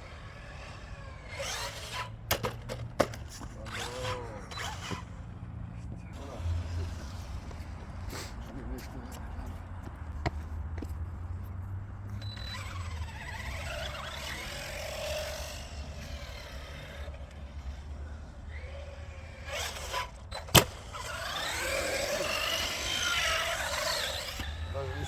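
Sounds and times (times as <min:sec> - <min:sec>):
electric toy truck motors whining: 0:00.0 - 0:08.6, 0:12.0 - 0:25.0.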